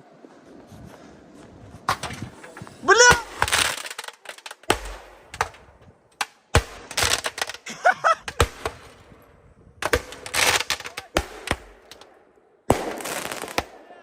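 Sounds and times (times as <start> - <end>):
firework bangs and crackles: 1.8 - 14.0.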